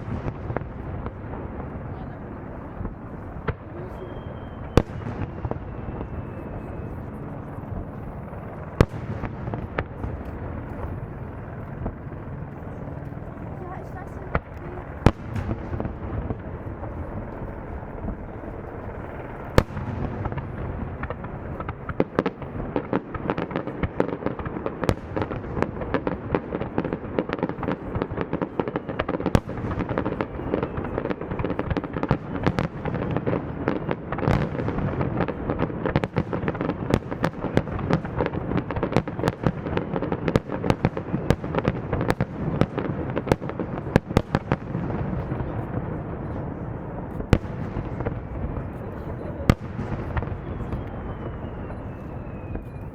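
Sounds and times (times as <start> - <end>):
fireworks bursting and banging: 0.0 - 52.9.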